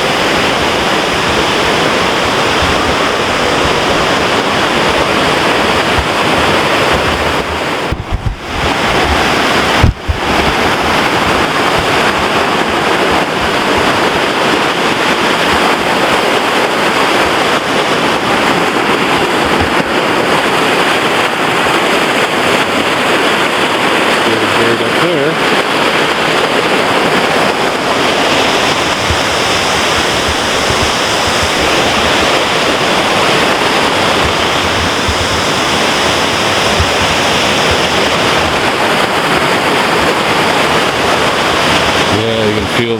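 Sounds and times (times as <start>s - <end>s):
creek rushing: 0.0s - 42.9s
wind buffeting microphone: 0.0s - 42.9s.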